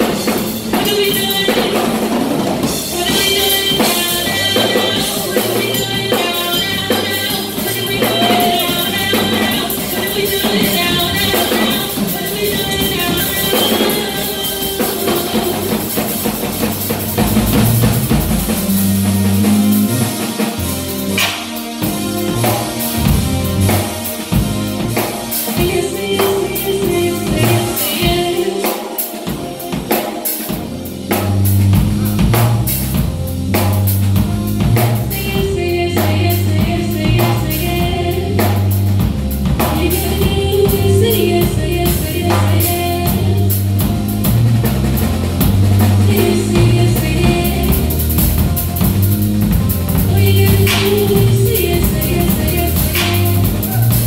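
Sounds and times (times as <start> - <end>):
bass line: 0.0 - 28.4, 30.5 - 54.0
drum kit beat: 0.0 - 54.0
electronic keyboard: 0.0 - 54.0.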